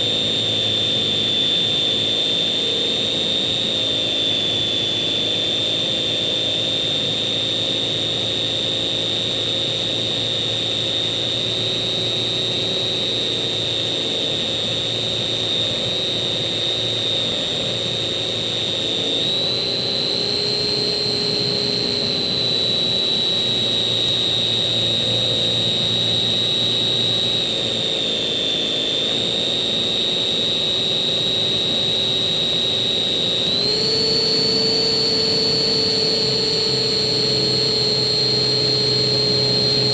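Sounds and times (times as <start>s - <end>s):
electric motor whine: 0.0s - 39.9s.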